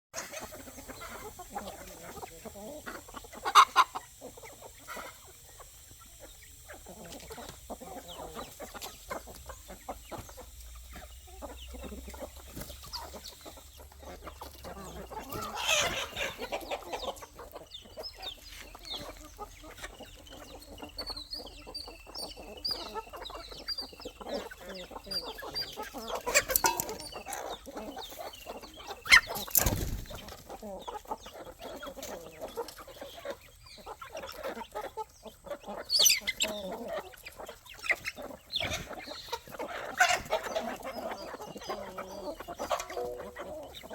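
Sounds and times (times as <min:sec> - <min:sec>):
chickens clucking: 0:00.2 - 0:43.9
loud chicken calls: 0:00.2 - 0:43.9.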